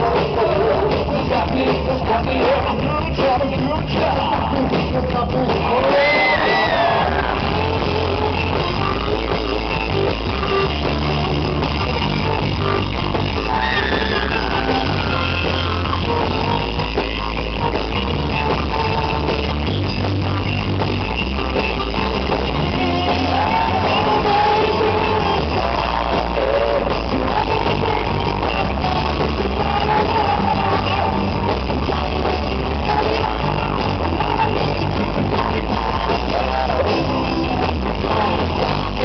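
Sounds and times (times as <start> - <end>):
man singing: 0.0 - 9.7, 13.3 - 19.5, 21.9 - 39.0
bass guitar: 0.0 - 39.0
drums: 0.0 - 39.0
electric guitars: 0.0 - 39.0.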